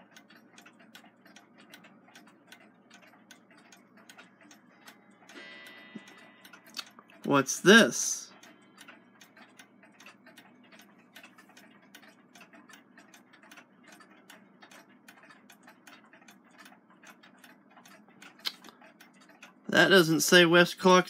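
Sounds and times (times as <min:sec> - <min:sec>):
alarm clocks ticking: 0:00.0 - 0:21.0.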